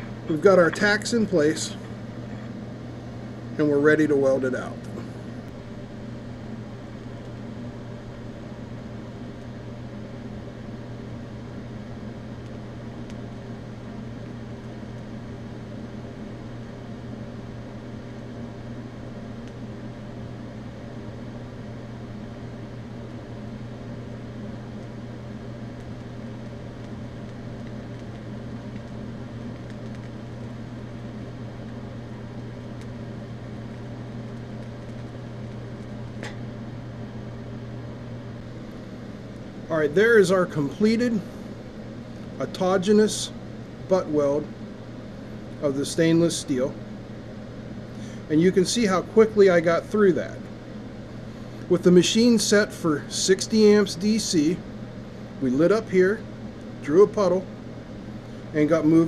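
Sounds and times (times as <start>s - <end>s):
welder electrical hum and hiss: 0.0s - 59.0s.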